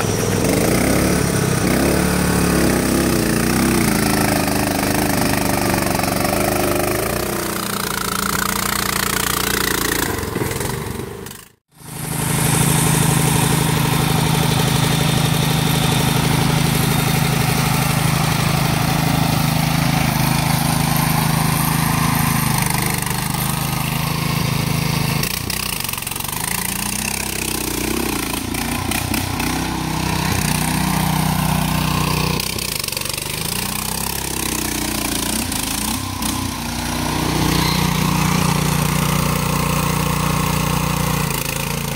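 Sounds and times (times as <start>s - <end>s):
lawn tractor engine running: 0.0s - 41.9s.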